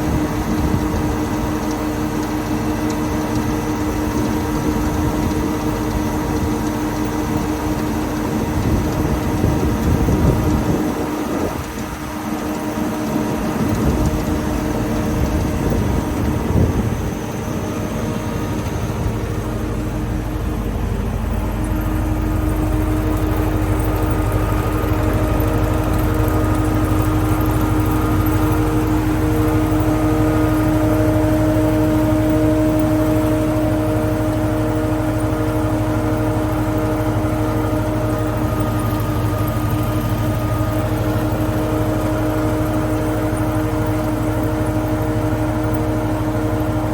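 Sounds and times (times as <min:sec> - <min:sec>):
wood planer machine hum: 0:00.0 - 0:46.9.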